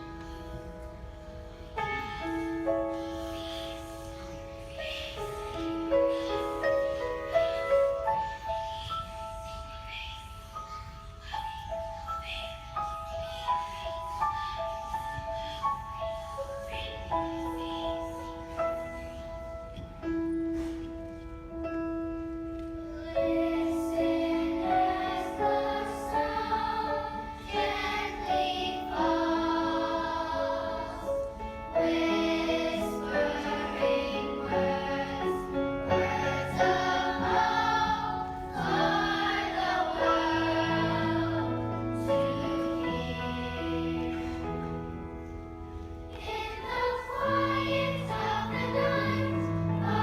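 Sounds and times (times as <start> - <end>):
children's choir singing: 0.0 - 20.9, 21.7 - 50.0
piano accompaniment: 0.0 - 50.0.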